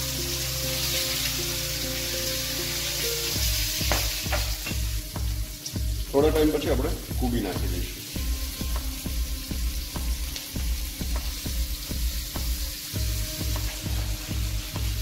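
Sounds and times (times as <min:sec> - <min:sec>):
oil sizzling in pan: 0:00.0 - 0:15.0.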